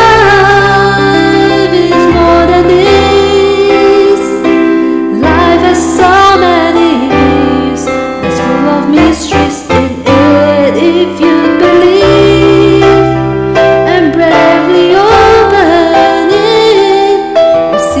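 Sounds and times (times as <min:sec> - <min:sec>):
piano and keyboard: 0:00.0 - 0:18.0.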